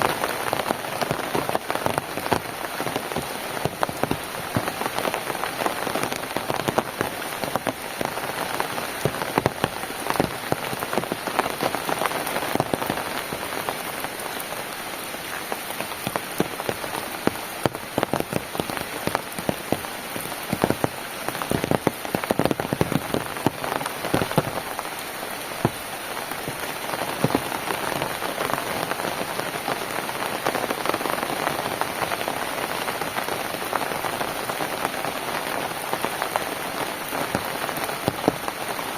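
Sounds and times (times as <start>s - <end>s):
rain on a hard surface: 0.0s - 38.9s.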